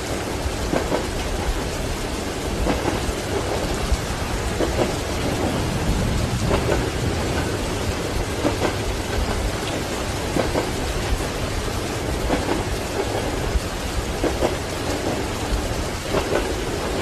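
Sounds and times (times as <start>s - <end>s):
low thunder rumble: 0.0s - 17.0s
steady rain: 0.0s - 17.0s
train wheels clacking on rail joints: 0.0s - 17.0s.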